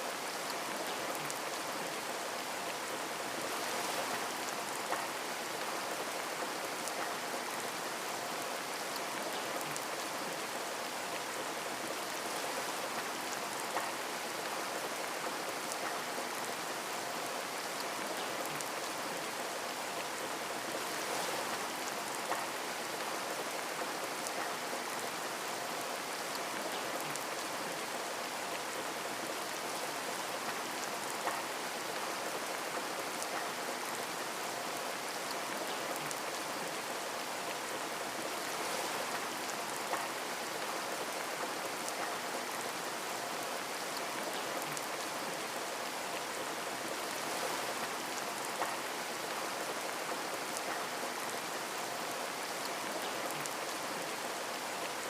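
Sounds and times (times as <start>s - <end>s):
rain pattering on a window: 0.1s - 55.0s.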